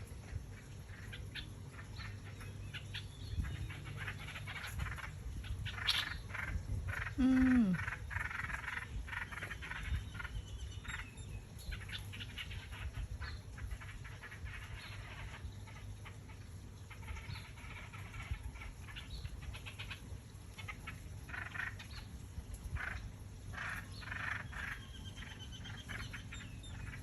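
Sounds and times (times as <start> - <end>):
small bird chirping: 0.3 - 22.0, 23.6 - 27.0.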